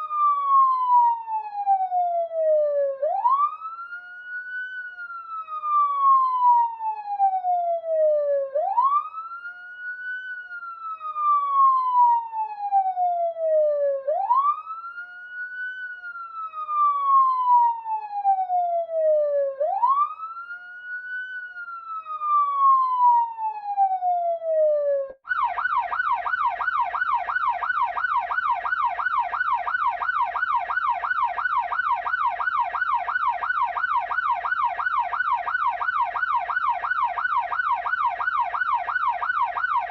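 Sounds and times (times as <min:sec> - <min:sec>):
police siren wailing: 0:00.0 - 0:39.9
police siren yelping: 0:00.0 - 0:39.9.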